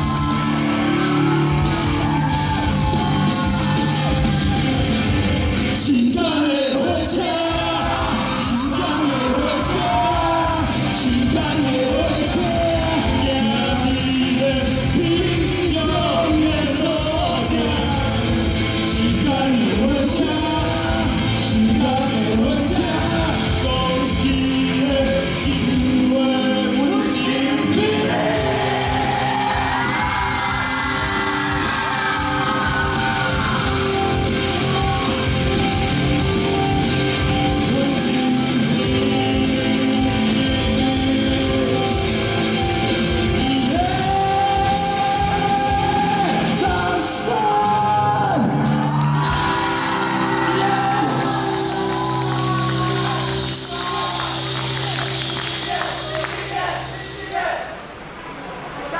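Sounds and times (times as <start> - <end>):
person singing pop song: 0.0 - 55.0
karaoke backing track: 0.0 - 57.9.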